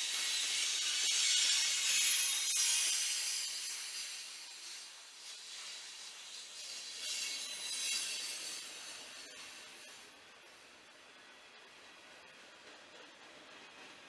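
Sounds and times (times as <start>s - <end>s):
train wheels hissing on rail: 0.0s - 14.0s.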